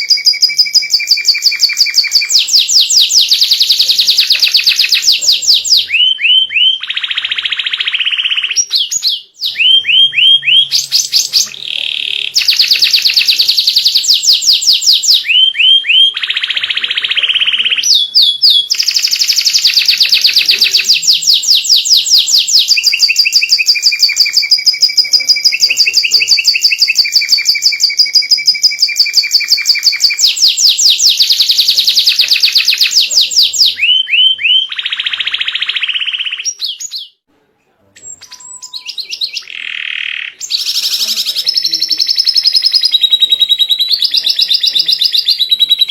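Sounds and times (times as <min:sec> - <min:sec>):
canary singing trills: 0:00.0 - 0:37.2, 0:38.0 - 0:45.9.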